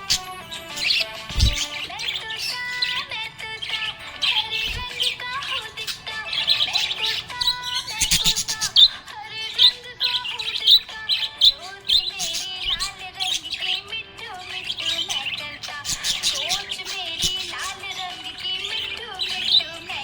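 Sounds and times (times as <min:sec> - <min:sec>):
budgerigar chirping: 0:00.0 - 0:20.0.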